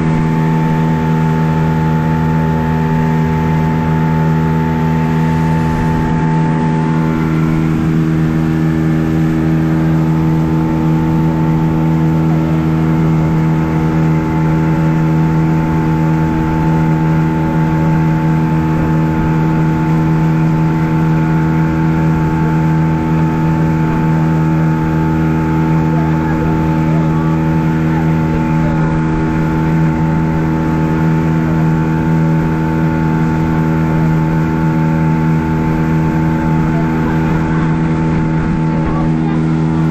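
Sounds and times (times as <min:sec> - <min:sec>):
outboard engine running: 0:00.0 - 0:39.9
water rushing: 0:00.0 - 0:39.9.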